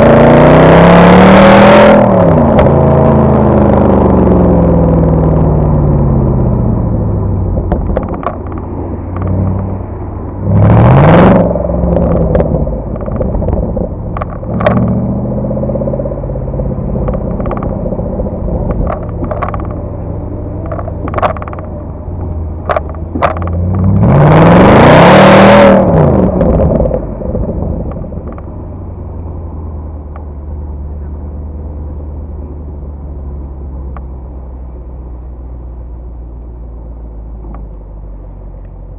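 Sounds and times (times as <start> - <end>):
car engine revving: 0.0 - 38.9
car engine idling with pops: 2.0 - 10.6, 11.2 - 24.1, 25.6 - 38.9.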